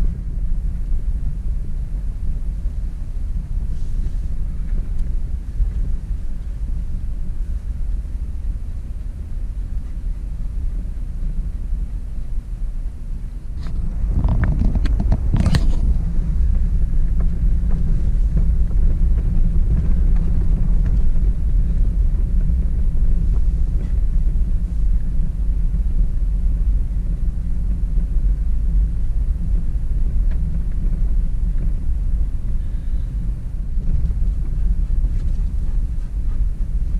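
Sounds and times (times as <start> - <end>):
car engine and tyres rumbling: 0.0 - 36.9.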